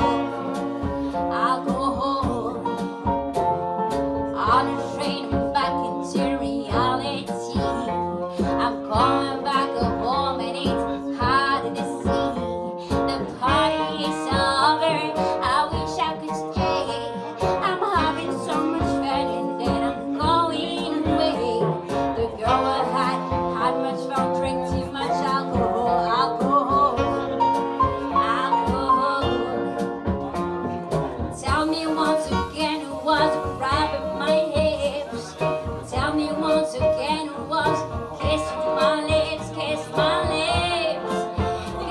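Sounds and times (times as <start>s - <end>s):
woman singing: 0.0s - 30.7s, 31.3s - 41.9s
live band playing: 0.0s - 41.9s.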